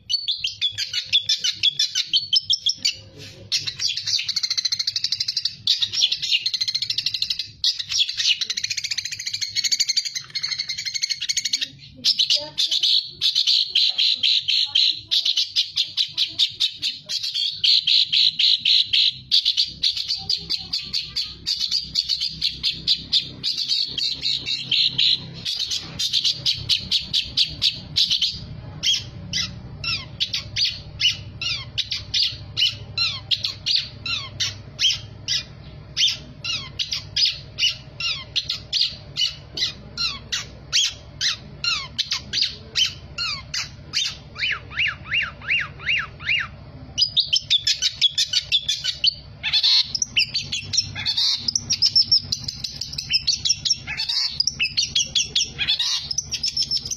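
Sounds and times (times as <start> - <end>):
shrike singing sharp chips: 0.0 - 56.9.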